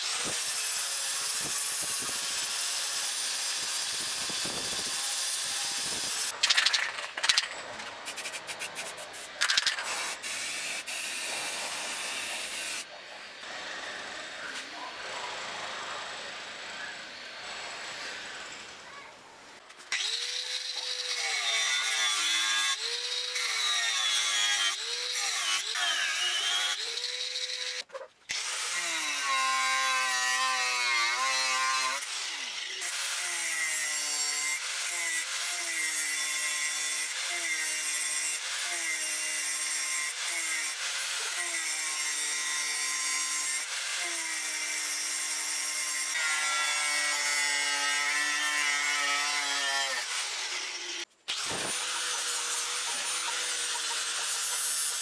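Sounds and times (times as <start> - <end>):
power tool cutting steel: 0.0 - 18.9, 19.8 - 55.0.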